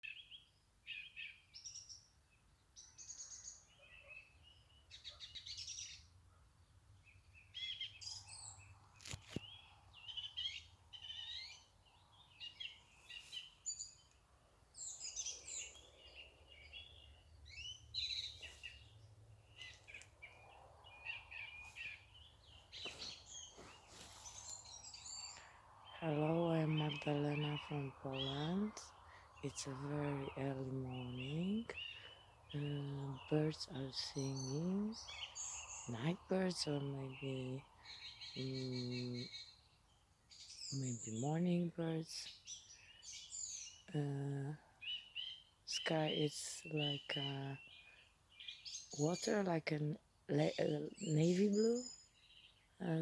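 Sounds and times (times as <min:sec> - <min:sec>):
birds singing and chirping: 0:00.0 - 0:14.2, 0:14.8 - 0:53.0.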